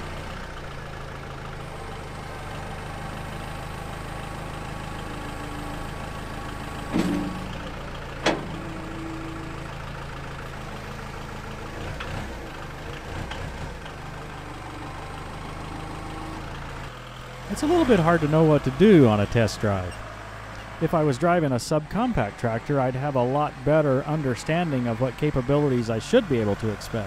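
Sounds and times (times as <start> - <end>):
loader clunks: 0.0 - 27.0
tractor diesel engine running: 0.0 - 27.0.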